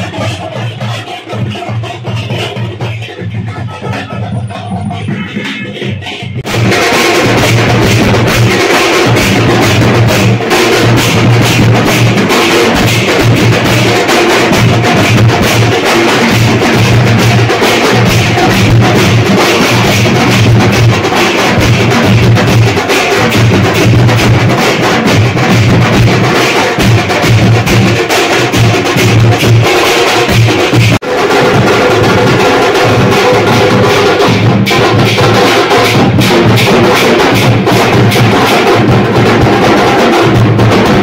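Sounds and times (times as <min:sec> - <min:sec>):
heavy fast drumming: 0:00.0 - 0:41.0.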